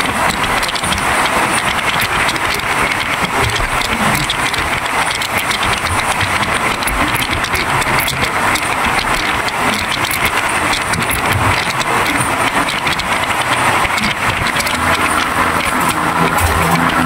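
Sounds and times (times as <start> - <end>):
crackle of rapid small clicks: 0.0 - 17.0
train rushing on track: 0.0 - 17.0.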